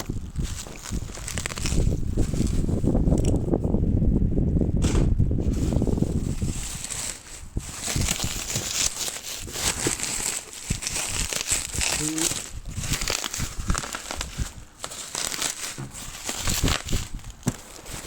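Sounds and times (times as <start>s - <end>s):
plastic packets crinkling: 0.0s - 3.3s, 6.0s - 18.0s.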